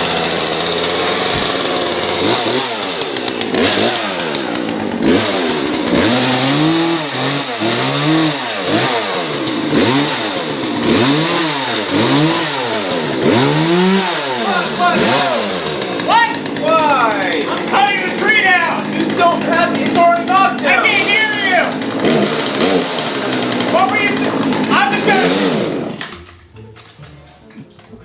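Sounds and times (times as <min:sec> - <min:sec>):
chainsaw revving: 0:00.0 - 0:26.5.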